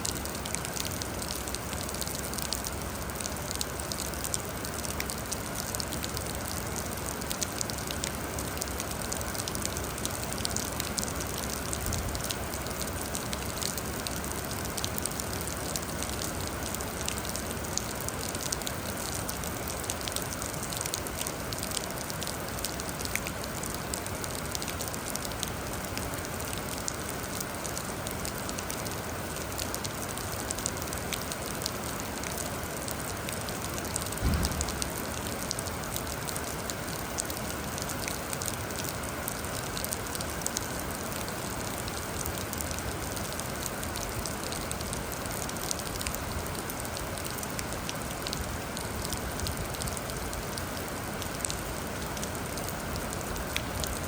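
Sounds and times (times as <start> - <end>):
rain hissing: 0.0 - 54.0
raindrops ticking on a surface: 0.0 - 54.0.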